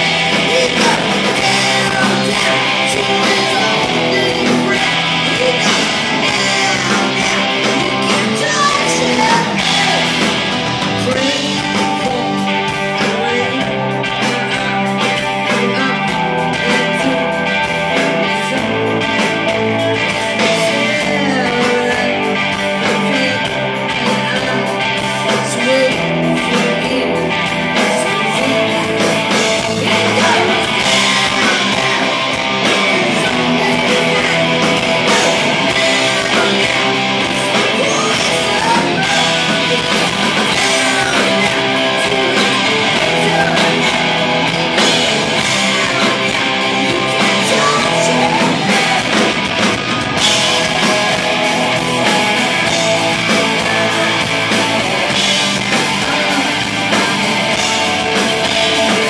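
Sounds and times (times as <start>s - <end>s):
live rock band playing: 0.0s - 59.0s
woman singing: 0.4s - 10.2s, 11.0s - 19.3s, 20.0s - 49.2s.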